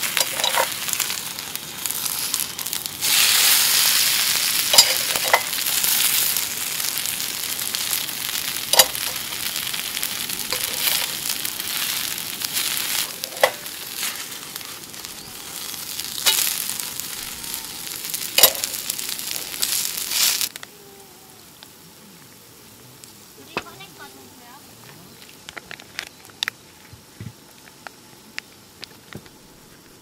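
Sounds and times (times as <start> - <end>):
pancake sizzling in oil: 0.0 - 26.8.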